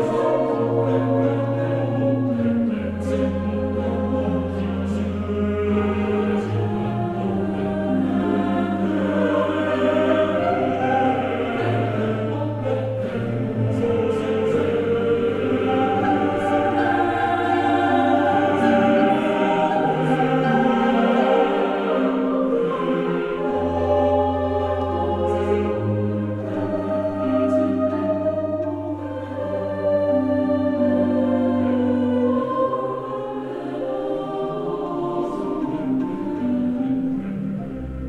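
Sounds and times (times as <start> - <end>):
choir-like voices: 0.0 - 38.0.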